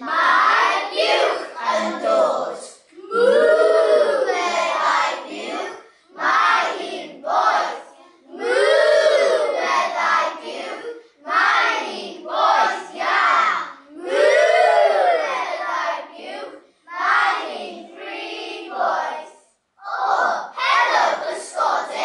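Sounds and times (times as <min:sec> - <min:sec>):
children chanting in unison: 0:00.0 - 0:22.0.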